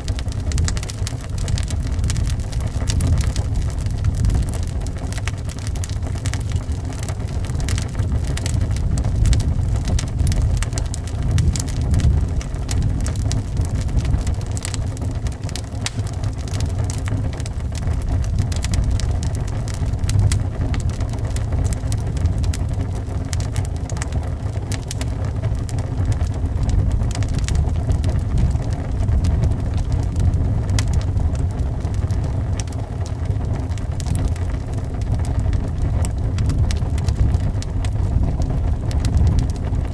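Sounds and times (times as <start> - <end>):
low rumble of wind: 0.0 - 39.9
wood fire crackling and popping: 0.0 - 39.9.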